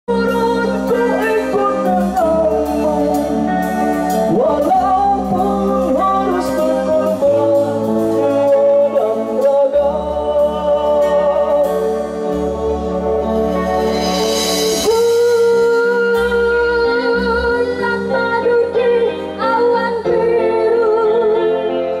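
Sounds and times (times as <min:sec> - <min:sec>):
electric bass: 0:00.0 - 0:22.0
keyboard: 0:00.0 - 0:22.0
drum kit: 0:00.1 - 0:20.8
person singing: 0:00.1 - 0:22.0.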